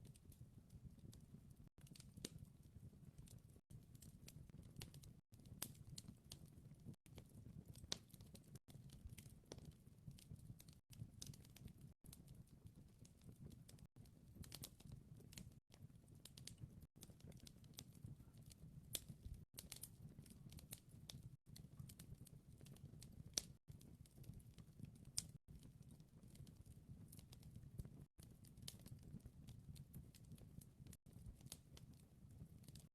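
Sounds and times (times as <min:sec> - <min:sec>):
wood fire crackling: 0:00.1 - 0:32.9.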